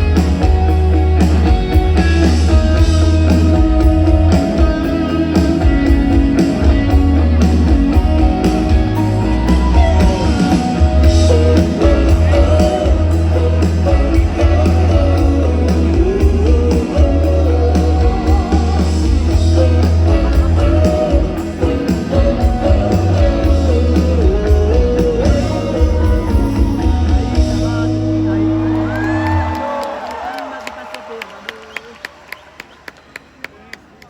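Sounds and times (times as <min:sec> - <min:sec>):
melodic lead line: 0:00.0 - 0:29.6
heavy bass: 0:00.0 - 0:29.8.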